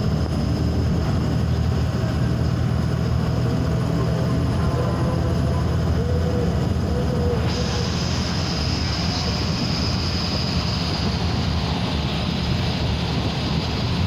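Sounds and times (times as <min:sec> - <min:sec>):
bus diesel engine and tyres: 0:00.0 - 0:14.0.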